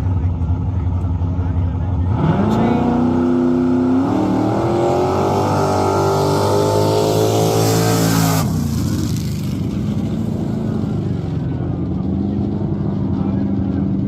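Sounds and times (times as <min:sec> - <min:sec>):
drag racing engine at full throttle: 0:00.0 - 0:14.0.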